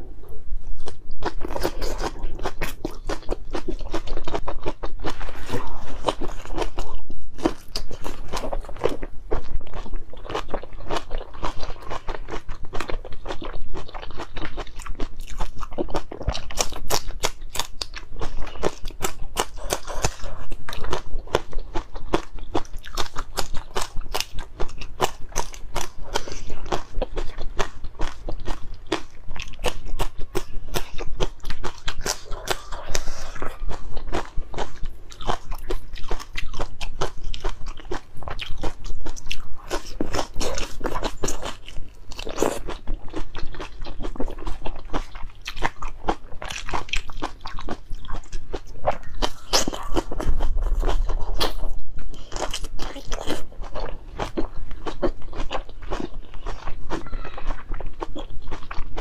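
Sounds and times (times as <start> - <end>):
crunchy chewing: 0.7 - 59.0.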